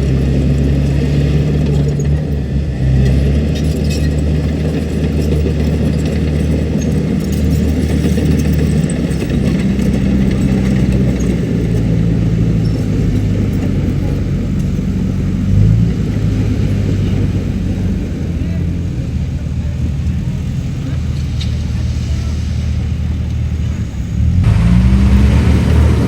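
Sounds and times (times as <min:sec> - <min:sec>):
diesel engine running: 0:04.2 - 0:26.0.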